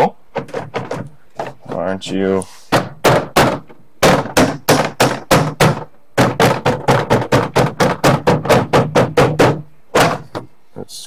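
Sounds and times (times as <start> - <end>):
fist knocking plastic panel: 0.3 - 1.8, 2.7 - 10.5.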